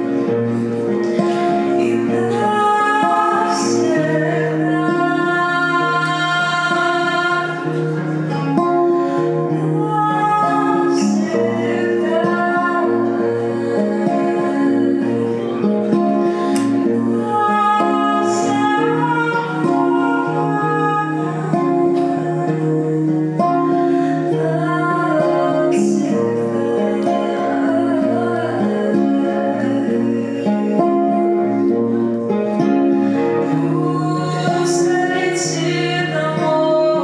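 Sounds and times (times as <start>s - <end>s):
acoustic guitar: 0.0s - 37.0s
woman singing: 0.0s - 37.0s.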